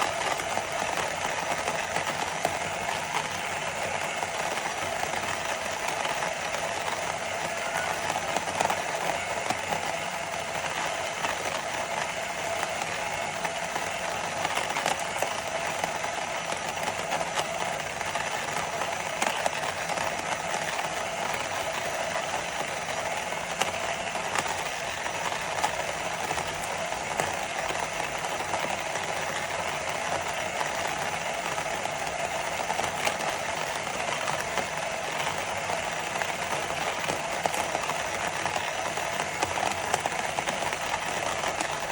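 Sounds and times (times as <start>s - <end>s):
electric coffee grinder grinding beans: 0.0s - 41.9s.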